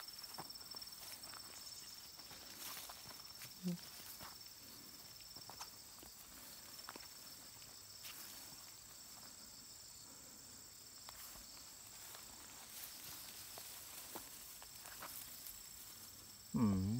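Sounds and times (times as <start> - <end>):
high insect hum: 0.0 - 16.9
insects trilling: 0.0 - 16.9.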